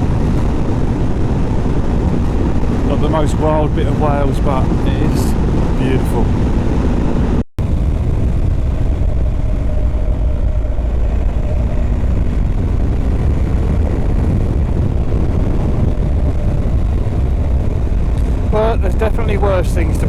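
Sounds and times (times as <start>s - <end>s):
motorcycle engine and wind rumble: 0.0s - 20.0s.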